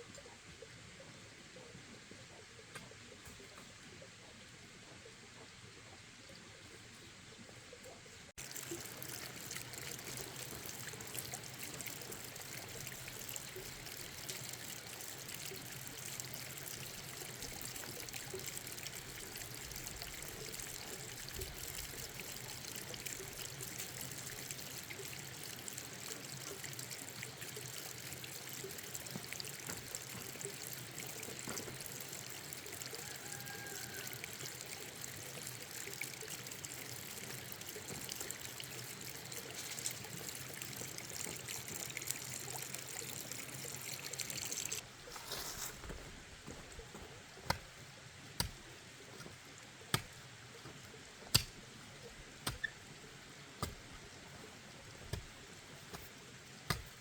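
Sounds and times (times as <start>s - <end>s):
pouring water: 8.3s - 57.0s.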